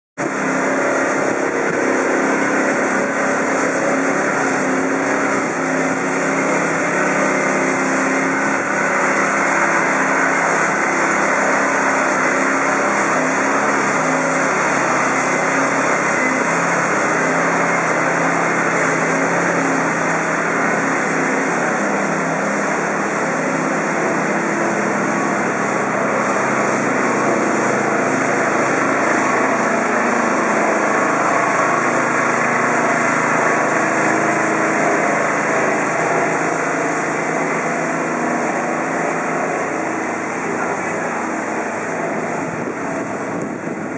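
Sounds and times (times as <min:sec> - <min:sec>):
diesel railcar engine humming: 0:00.2 - 0:43.9.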